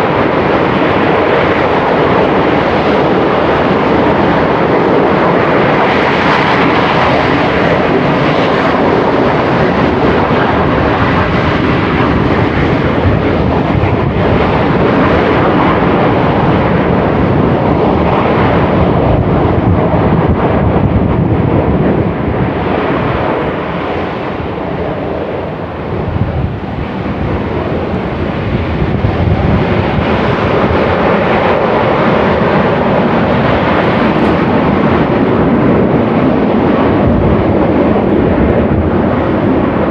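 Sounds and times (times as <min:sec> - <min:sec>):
volcano venting ash: 0:00.0 - 0:39.9.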